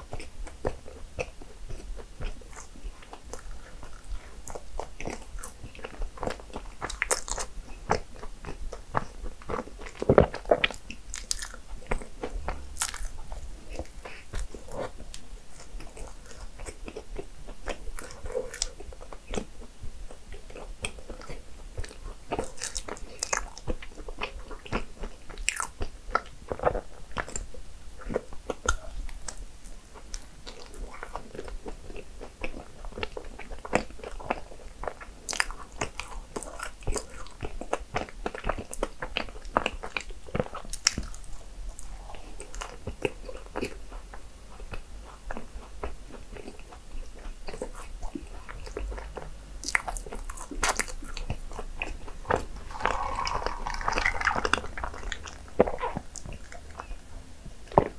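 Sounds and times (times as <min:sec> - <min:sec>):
person chewing cinnamon rolls: 0:00.0 - 0:57.9.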